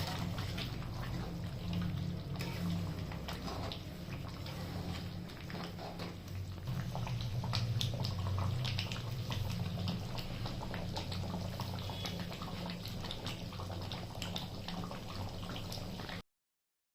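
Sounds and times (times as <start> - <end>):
curry bubbling and popping: 0.0 - 16.2.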